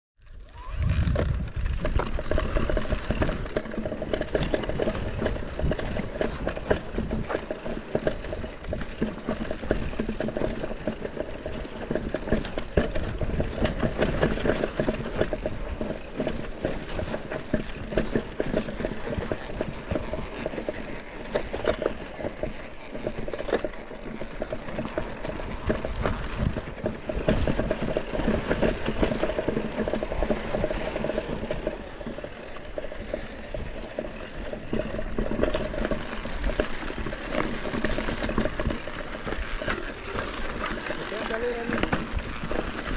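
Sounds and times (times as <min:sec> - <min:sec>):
bike frame and chain clicking: 0:00.2 - 0:42.9
bike tyres crunching over gravel: 0:00.2 - 0:42.9.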